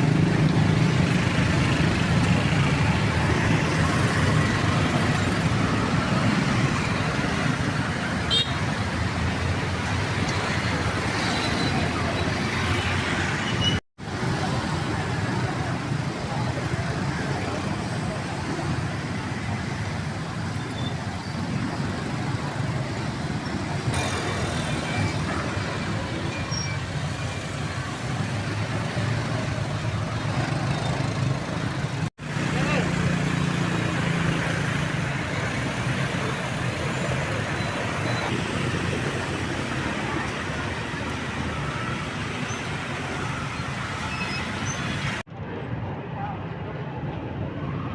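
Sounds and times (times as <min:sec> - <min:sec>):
street traffic: 0:00.0 - 0:47.9.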